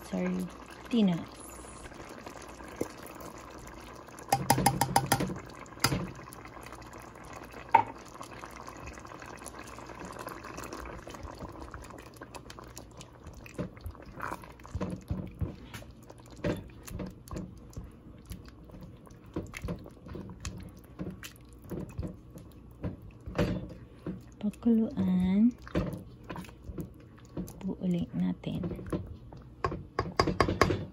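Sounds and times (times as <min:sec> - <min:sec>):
stew simmering and bubbling: 0:00.0 - 0:30.9.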